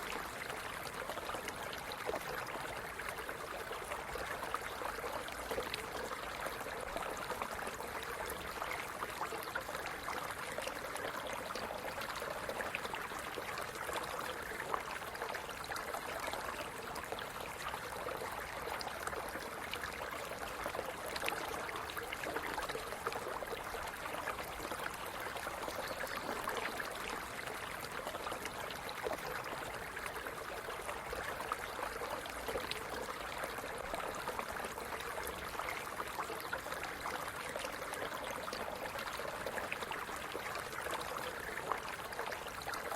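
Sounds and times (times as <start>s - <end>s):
stream running: 0.0s - 42.9s.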